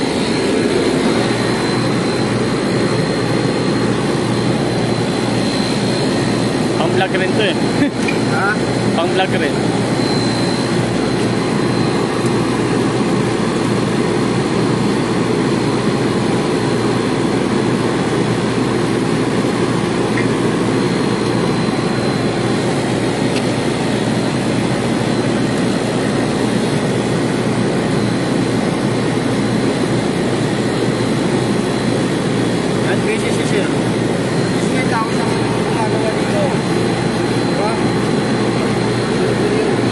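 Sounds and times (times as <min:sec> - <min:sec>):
faint high whine: 0:00.0 - 0:39.9
machinery drone: 0:00.0 - 0:39.9.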